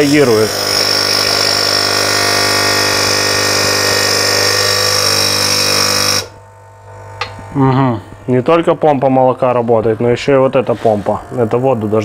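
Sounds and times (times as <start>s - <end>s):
coffee machine pumps buzzing: 0.0s - 12.0s.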